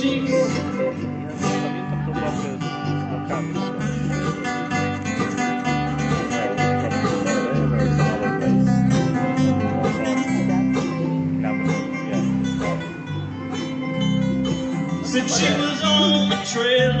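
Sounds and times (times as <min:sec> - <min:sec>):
fiddle: 0:00.0 - 0:17.0
strummed acoustic guitar: 0:00.0 - 0:17.0
walking bass line: 0:00.0 - 0:17.0.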